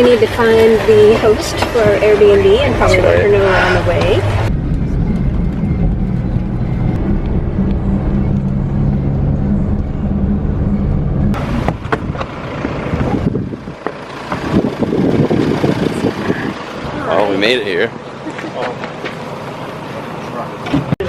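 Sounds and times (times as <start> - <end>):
van engine and road noise: 0.0 - 21.0.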